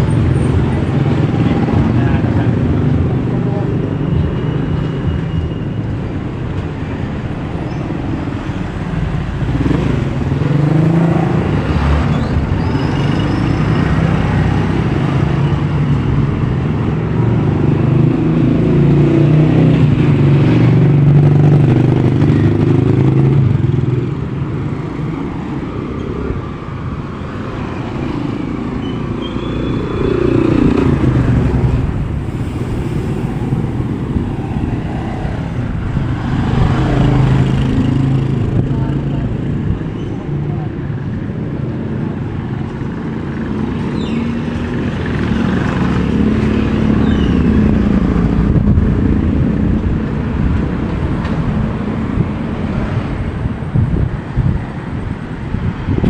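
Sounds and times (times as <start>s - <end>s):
motorcycle engines passing: 0.0s - 56.0s
traffic hum: 0.0s - 56.0s.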